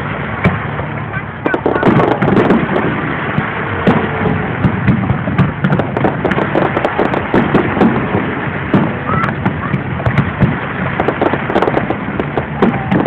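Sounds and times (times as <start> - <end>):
sharp pops and crackles: 0.4 - 13.0
firework shells bursting: 1.4 - 13.0.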